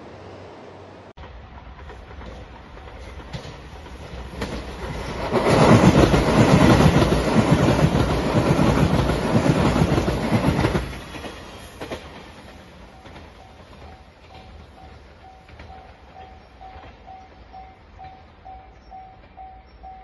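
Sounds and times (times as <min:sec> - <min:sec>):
train passing with wheel clatter: 0:00.0 - 0:20.0.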